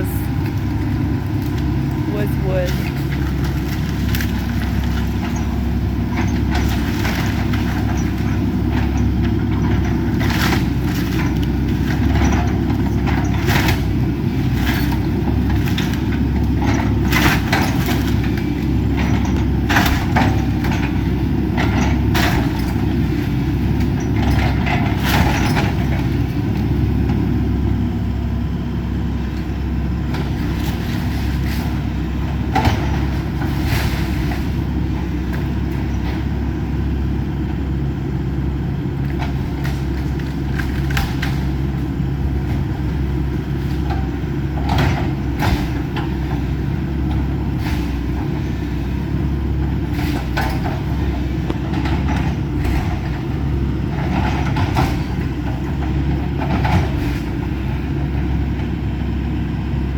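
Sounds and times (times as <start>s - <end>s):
excavator engine hum: 0.0s - 59.9s.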